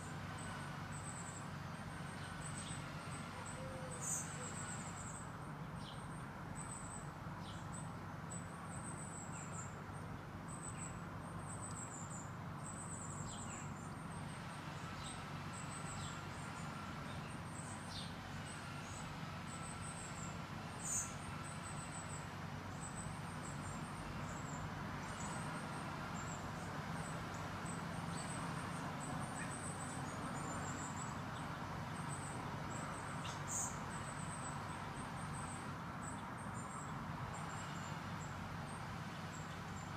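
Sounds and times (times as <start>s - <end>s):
small birds chirping: 0.4s - 39.9s.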